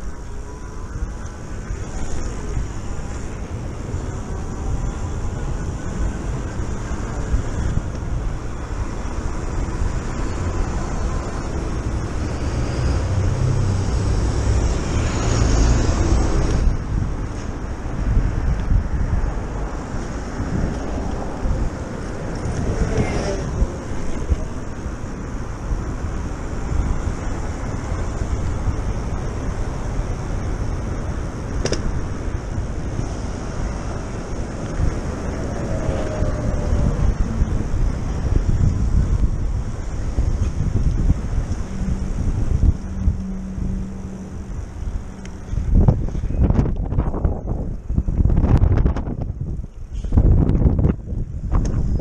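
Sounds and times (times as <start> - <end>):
electric bike rumbling on road: 0.0 - 52.0
wind buffeting microphone: 0.0 - 52.0.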